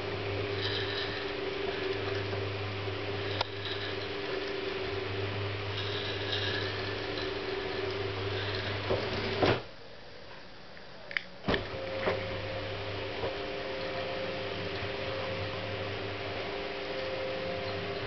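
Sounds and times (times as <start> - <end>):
roller blind motor running: 0.0 - 9.7, 11.5 - 18.0.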